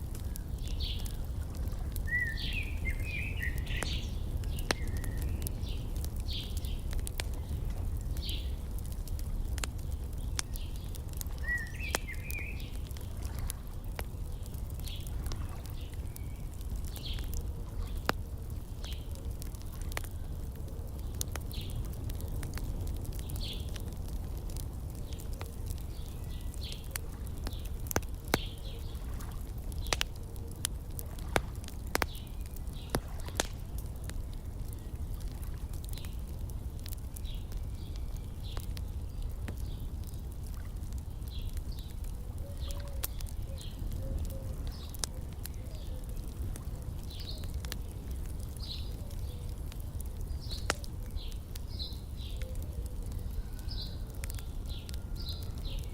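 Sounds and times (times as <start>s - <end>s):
low rumble of fire: 0.0s - 55.9s
wood fire crackling and popping: 0.0s - 55.9s
small birds chirping: 0.1s - 55.9s.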